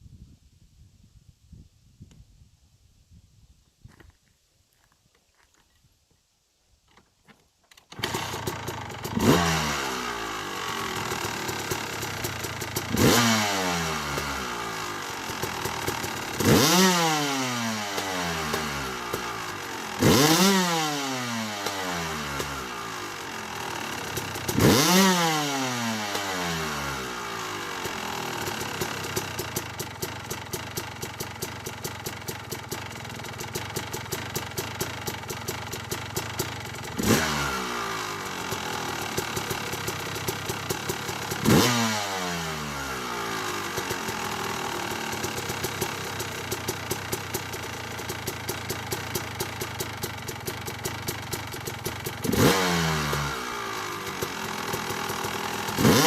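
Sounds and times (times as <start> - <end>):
motorcycle engine revving: 7.9 - 56.0.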